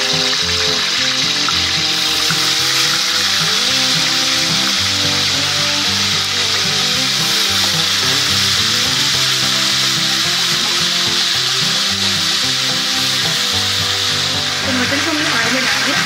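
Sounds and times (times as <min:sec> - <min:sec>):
background music of held notes: 0:00.0 - 0:16.0
meat sizzling in hot oil: 0:00.0 - 0:16.0.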